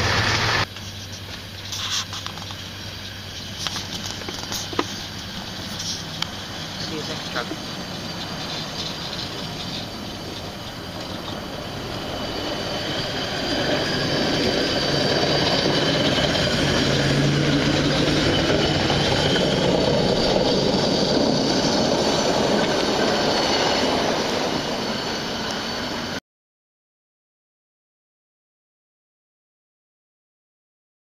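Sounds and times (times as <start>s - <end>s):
truck engine running: 0.0s - 24.9s
thin high whine: 0.0s - 26.2s
wheels rumbling on rails: 0.0s - 26.2s.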